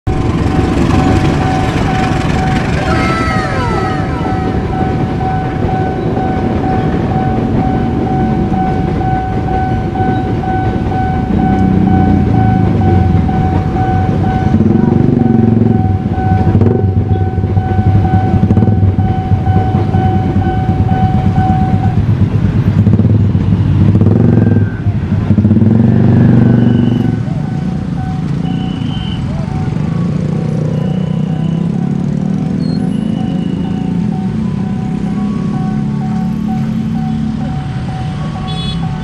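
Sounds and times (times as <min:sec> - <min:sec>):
car engines: 0:00.1 - 0:39.0
level crossing warning bell: 0:00.1 - 0:39.0
motorcycle engines: 0:00.1 - 0:39.0
passing train rumble and clatter: 0:00.1 - 0:39.0.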